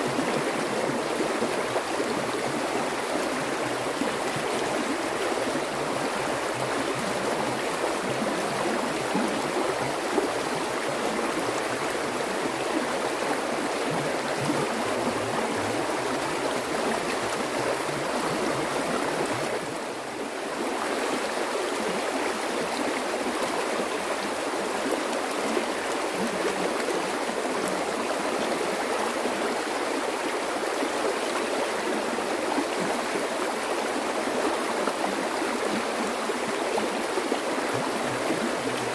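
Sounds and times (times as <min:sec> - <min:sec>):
water babbling over stones: 0:00.0 - 0:38.9.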